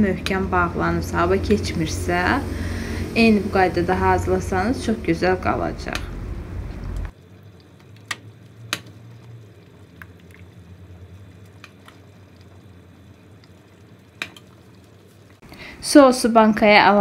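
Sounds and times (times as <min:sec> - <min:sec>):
sauce bubbling in a pot: 0:00.0 - 0:15.5.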